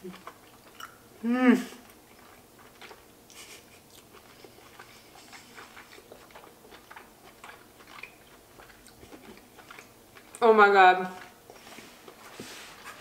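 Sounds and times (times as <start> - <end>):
faint wet chewing: 0.0 - 13.0.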